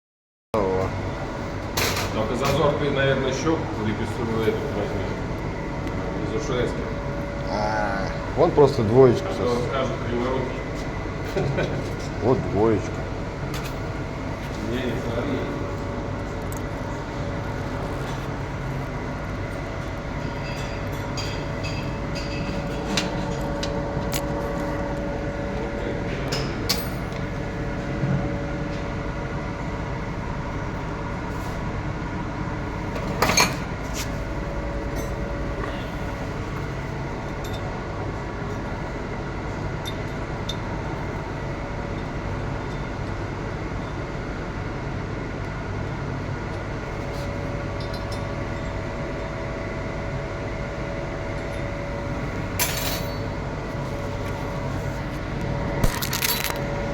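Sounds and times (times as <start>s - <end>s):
machine hum: 0.6s - 56.9s.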